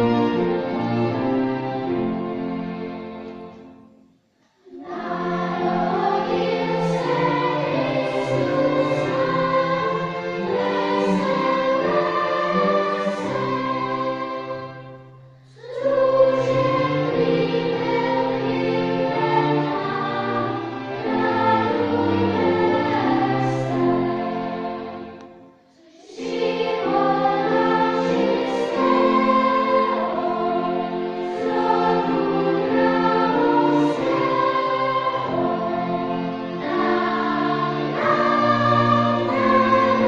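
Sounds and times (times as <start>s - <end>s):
children's choir singing: 0.0s - 40.0s
string ensemble: 0.0s - 40.0s.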